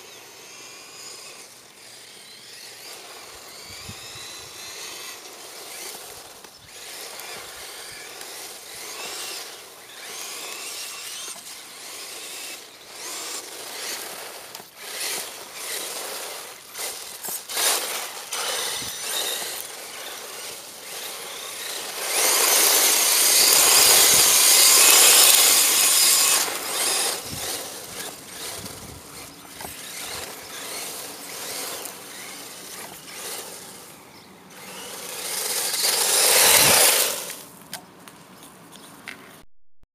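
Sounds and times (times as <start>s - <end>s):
electric motor whine: 0.0s - 37.5s
tyres crunching on dirt: 0.9s - 39.3s.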